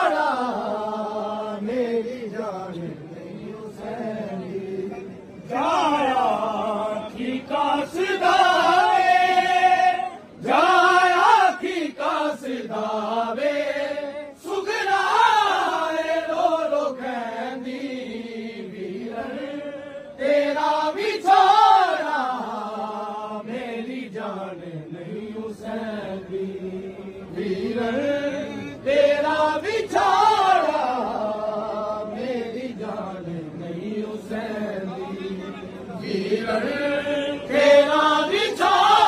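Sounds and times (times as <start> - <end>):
men chanting a lament: 0.0 - 39.0.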